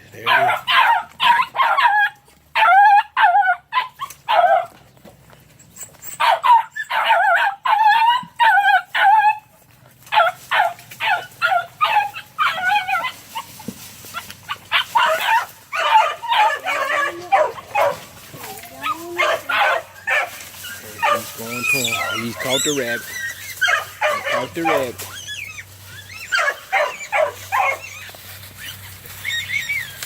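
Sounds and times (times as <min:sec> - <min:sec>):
puppies yelping and baying: 0:00.0 - 0:30.0.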